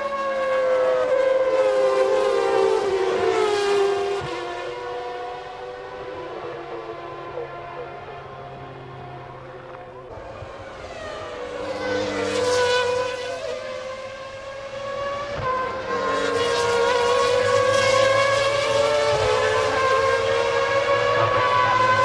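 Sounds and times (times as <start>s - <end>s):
racing car engines at high revs: 0.0s - 22.0s.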